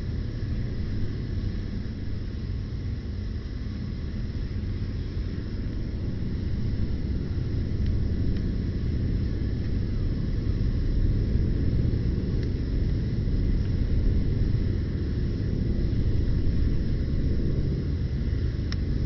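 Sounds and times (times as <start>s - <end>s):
campfire rumbling: 0.0s - 19.0s
fire crackling: 0.0s - 19.0s.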